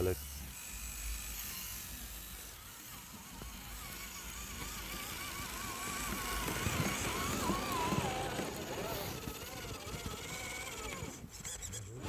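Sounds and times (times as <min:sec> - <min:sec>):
model vehicle motor whining: 0:00.0 - 0:12.0.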